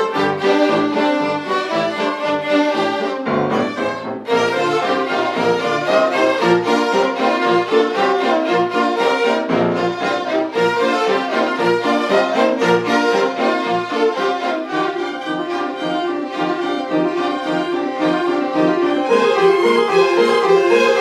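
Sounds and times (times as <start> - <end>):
violins playing lively piece: 0.0 - 21.0.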